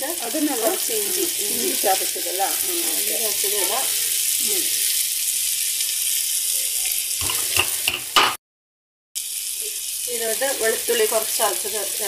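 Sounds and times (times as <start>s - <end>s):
vegetables sizzling in oil: 0.0s - 8.4s, 9.2s - 12.0s.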